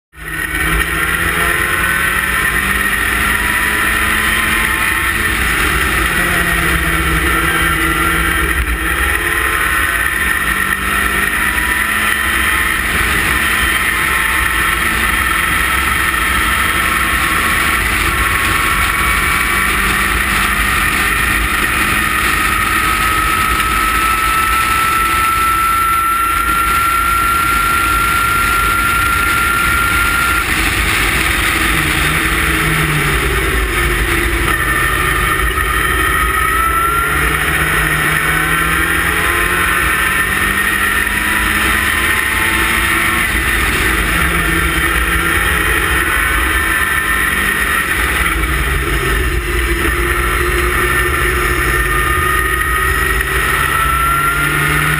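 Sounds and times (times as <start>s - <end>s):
sports car engine revving: 0.1s - 54.9s.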